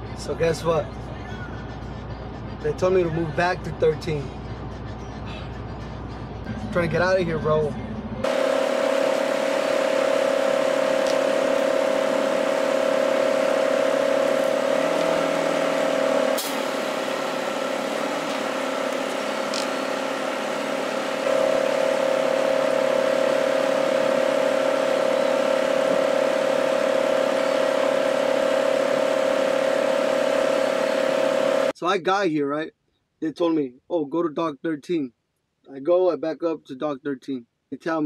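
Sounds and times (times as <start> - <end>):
truck engine whine: 0.0 - 31.8.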